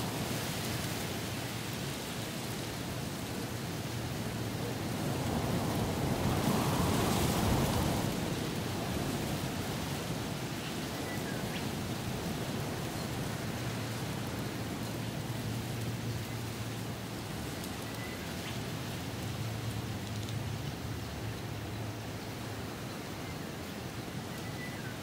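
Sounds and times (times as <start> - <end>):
strong wind through trees: 0.0 - 25.0.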